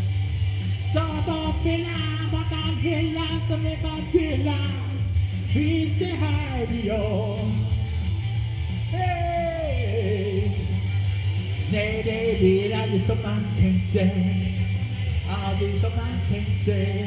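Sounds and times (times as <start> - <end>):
electric guitar: 0.0 - 17.0
low bass: 0.0 - 17.0
ticking beat: 0.0 - 17.0
man singing into a microphone: 0.8 - 7.8, 8.9 - 10.8, 11.6 - 17.0.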